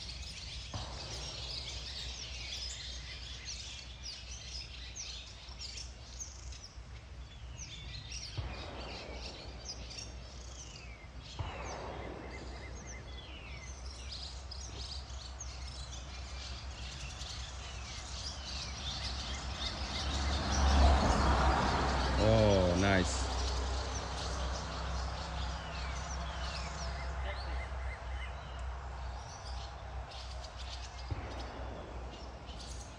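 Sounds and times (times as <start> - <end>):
birds chirping: 0.0 - 32.9.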